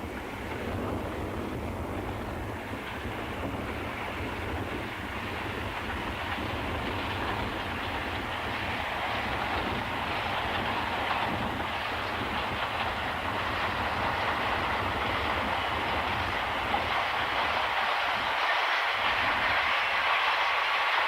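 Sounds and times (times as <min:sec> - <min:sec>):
diesel train running: 0:00.0 - 0:21.0
rail clatter: 0:00.0 - 0:21.0
wind buffeting microphone: 0:00.0 - 0:21.0.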